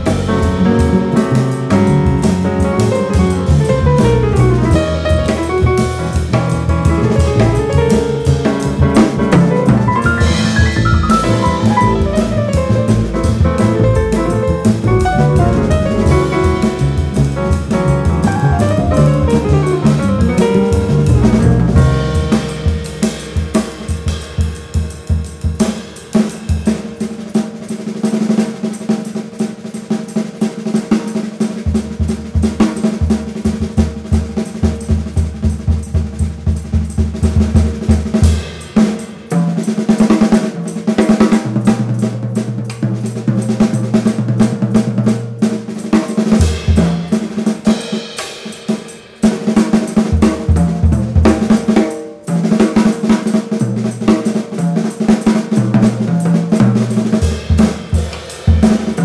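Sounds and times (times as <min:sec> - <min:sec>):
acoustic drum kit playing jazz: 0:00.0 - 0:59.0.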